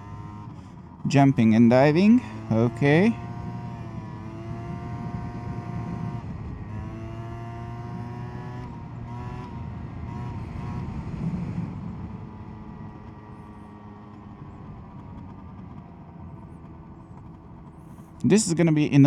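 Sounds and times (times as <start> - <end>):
scooter engine revving: 0.0 - 18.6.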